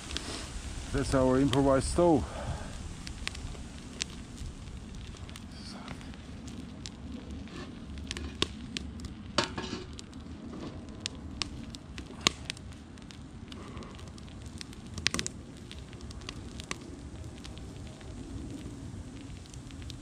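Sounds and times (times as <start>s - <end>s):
egg sizzling in frying pan: 0.0s - 20.0s
wood fire pops and crackles: 0.0s - 20.0s.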